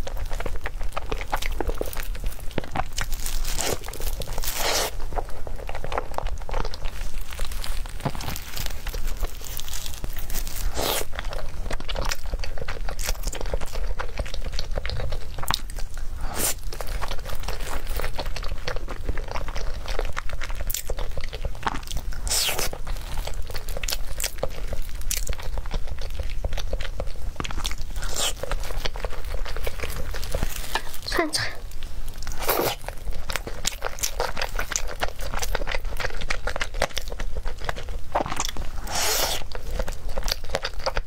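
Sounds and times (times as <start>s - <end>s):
chewing: 0.0s - 41.0s.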